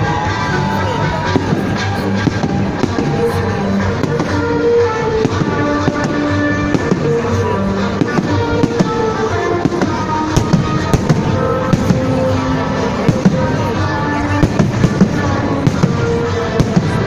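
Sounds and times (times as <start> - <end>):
firework bangs and crackles: 0.0 - 17.0
music: 0.0 - 17.0.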